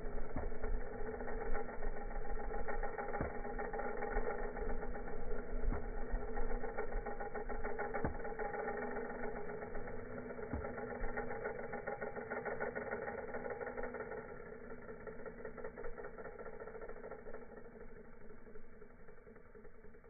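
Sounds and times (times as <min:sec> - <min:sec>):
vacuum cleaner motor drone: 0:00.0 - 0:19.8.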